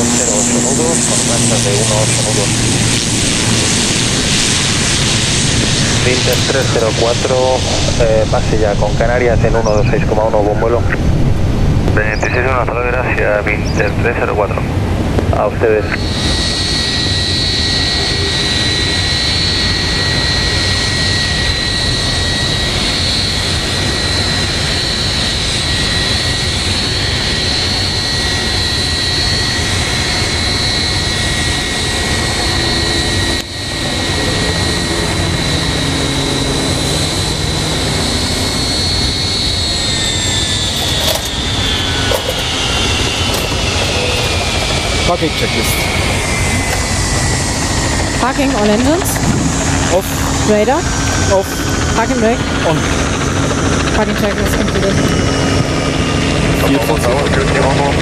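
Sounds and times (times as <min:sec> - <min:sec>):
jet engines idling with whine: 0:00.0 - 0:58.0.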